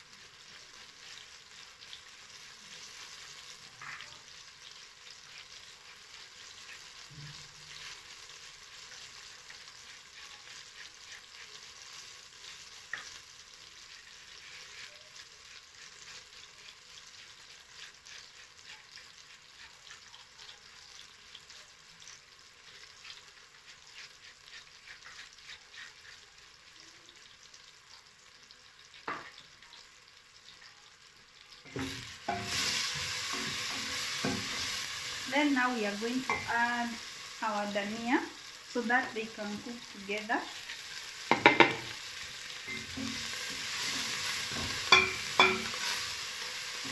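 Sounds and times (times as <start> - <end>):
stirring in a pan: 0.0 - 46.9
tomatoes sizzling in a pan: 0.0 - 46.9.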